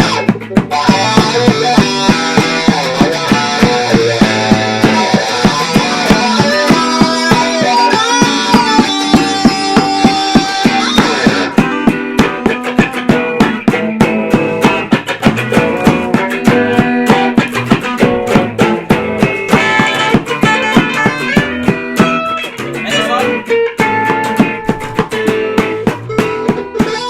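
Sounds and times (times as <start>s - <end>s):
live band playing instrumental: 0.0s - 27.0s.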